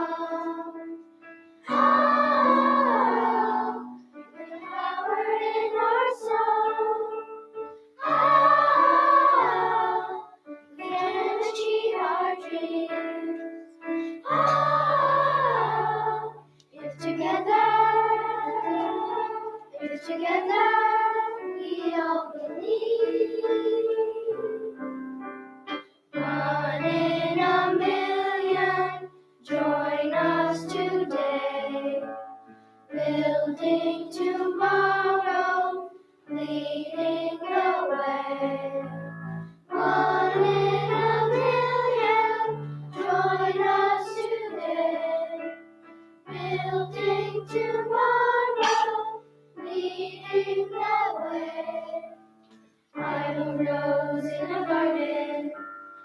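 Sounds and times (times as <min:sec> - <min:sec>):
children's choir singing: 0:00.0 - 0:24.9, 0:26.2 - 0:39.1, 0:39.7 - 0:45.6, 0:46.3 - 0:52.2, 0:52.9 - 0:55.7.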